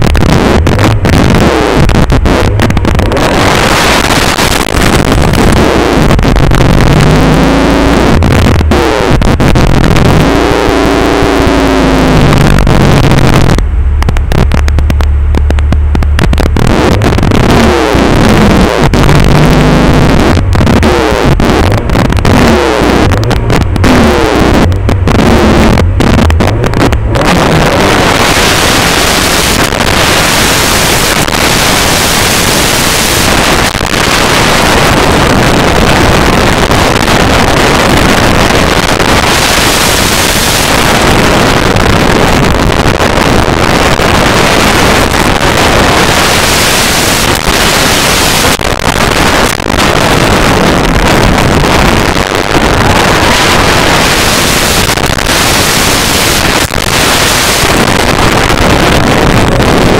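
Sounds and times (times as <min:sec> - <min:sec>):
distorted engine road and wind noise: 0:00.0 - 0:59.9
turbocharged car engine revving: 0:00.0 - 0:59.9.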